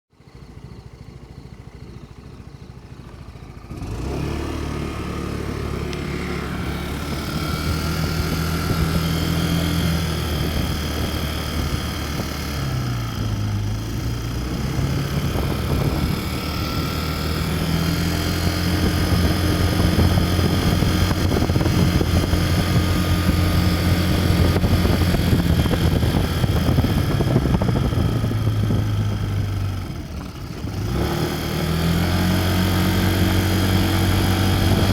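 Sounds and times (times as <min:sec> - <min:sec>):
scooter engine running: 0:00.2 - 0:34.9.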